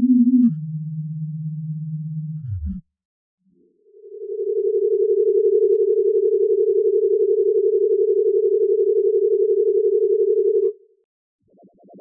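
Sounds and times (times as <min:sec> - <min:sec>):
warbling electronic hum: 0:00.0 - 0:02.8, 0:03.6 - 0:10.8.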